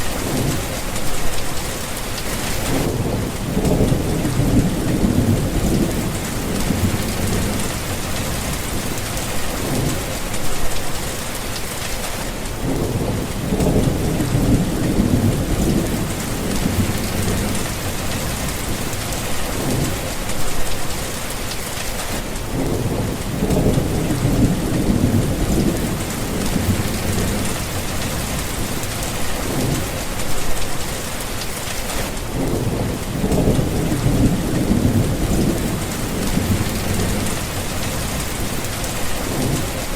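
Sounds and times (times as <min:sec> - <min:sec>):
heavy rain: 0:00.0 - 0:39.9
low thunder rumbling: 0:02.5 - 0:11.1, 0:12.5 - 0:20.8, 0:22.5 - 0:30.9, 0:32.2 - 0:39.9.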